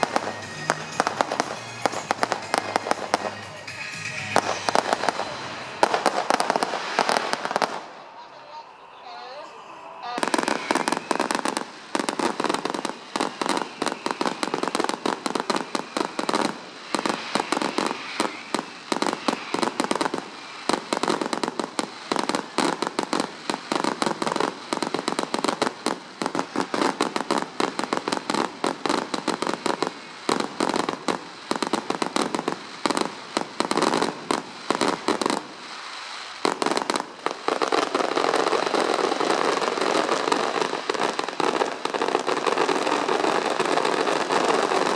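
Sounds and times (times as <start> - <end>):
fireworks bangs and crackles: 0.0 - 9.4, 10.0 - 44.9.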